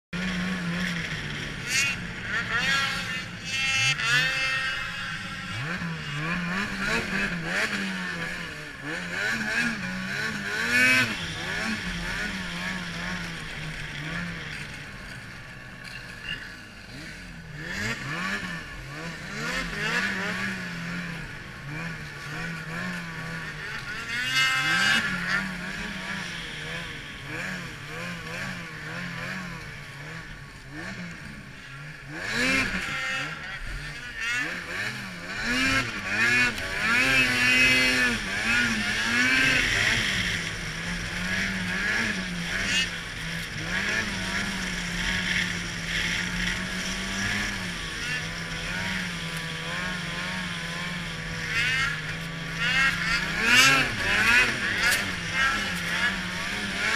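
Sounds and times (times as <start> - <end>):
snowmobile engine revving: 0.2 - 56.9.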